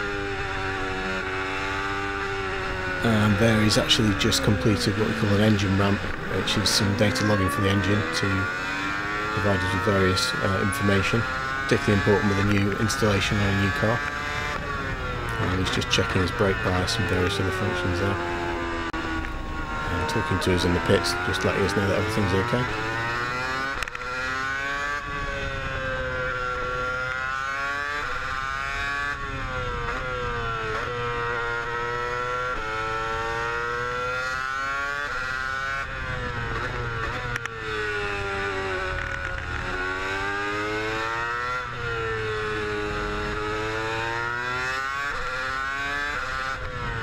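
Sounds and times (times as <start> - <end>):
racing car engine revving: 0.0 - 47.0.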